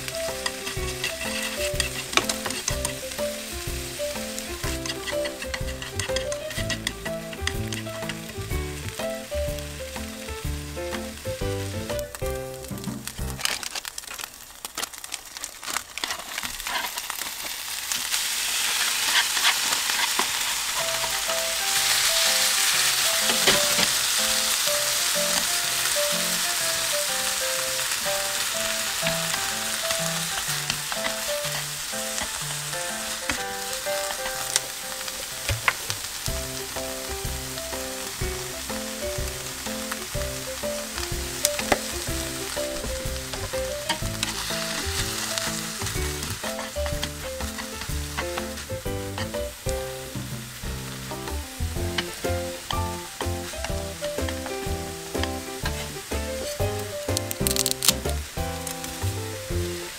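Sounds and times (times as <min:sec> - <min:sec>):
light background music: 0:00.0 - 0:13.5, 0:20.9 - 0:59.9
food sizzling in a frying pan: 0:00.0 - 0:59.9.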